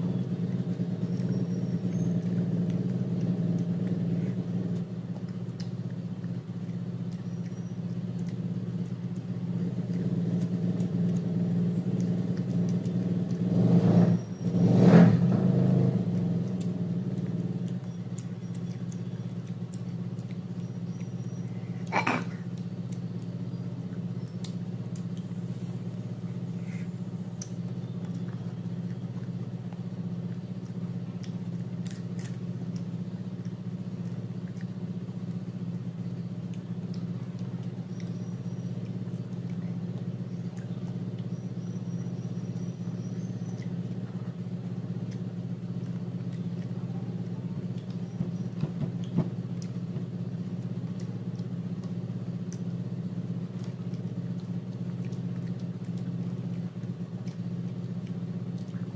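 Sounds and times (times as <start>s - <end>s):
chewing: 0.0s - 58.9s
steady low hum: 0.0s - 58.9s.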